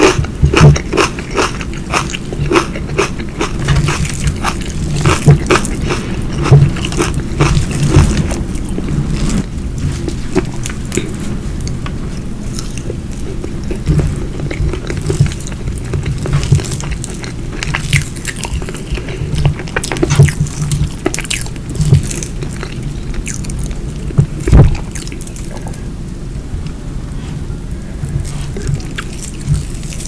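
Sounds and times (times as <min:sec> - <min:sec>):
chewing with wet mouth clicks: 0:00.0 - 0:09.0, 0:12.5 - 0:25.8, 0:28.2 - 0:30.0.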